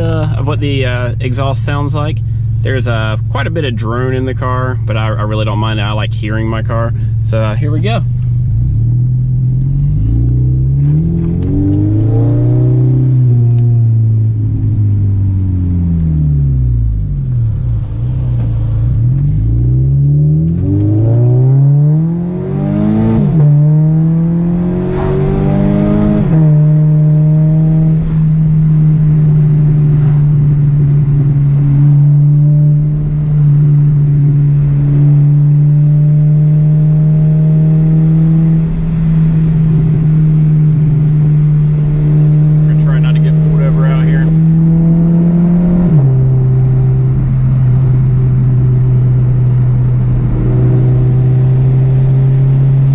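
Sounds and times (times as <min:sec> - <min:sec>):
car engine revving in cabin: 0:00.0 - 0:52.9.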